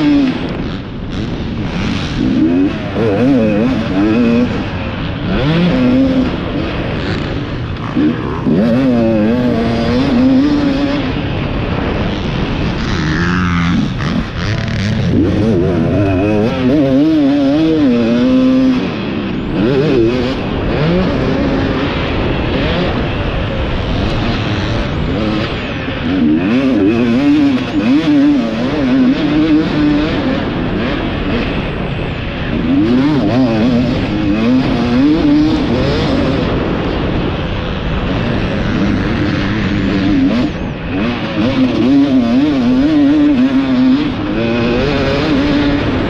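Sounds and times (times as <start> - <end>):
motorbike engine revving: 0.0 - 46.0
wind rush on microphone: 0.0 - 46.0.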